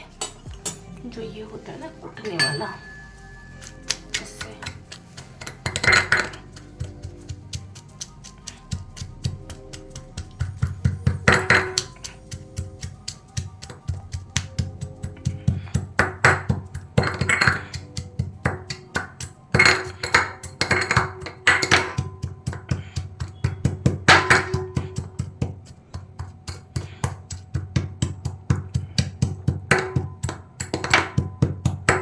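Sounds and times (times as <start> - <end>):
pestle pounding in bowl: 3.1 - 32.0.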